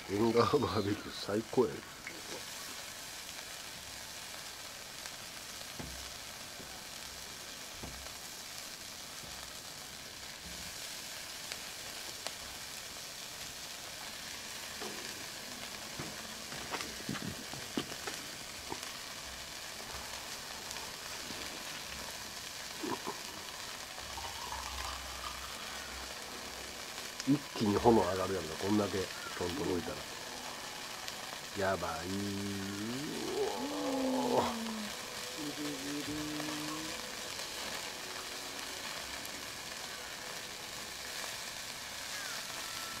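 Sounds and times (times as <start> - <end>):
meat sizzling on a grill: 0.0 - 43.0.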